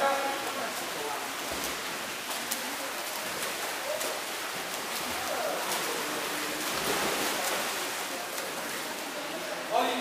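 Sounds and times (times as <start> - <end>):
swimmers splashing water: 0.0 - 10.0.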